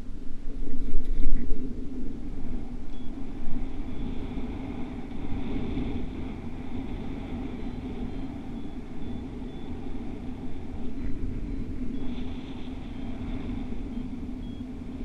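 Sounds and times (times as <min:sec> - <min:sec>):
faint steady high tone: 0:00.0 - 0:04.5, 0:07.4 - 0:15.0
wind buffeting microphone: 0:00.0 - 0:15.0.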